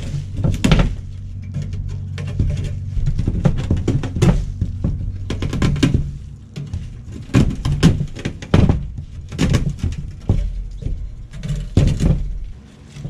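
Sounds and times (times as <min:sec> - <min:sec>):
metal knocks and clanks: 0:00.0 - 0:13.0.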